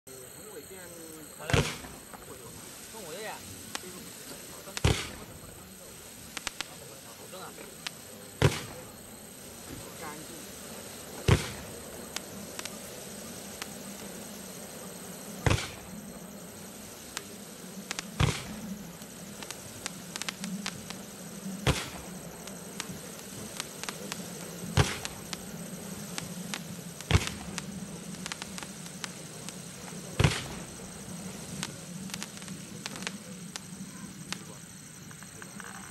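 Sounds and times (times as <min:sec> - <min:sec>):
fireworks crackles: 0:00.1 - 0:35.9
fireworks launch reports: 0:00.1 - 0:35.9.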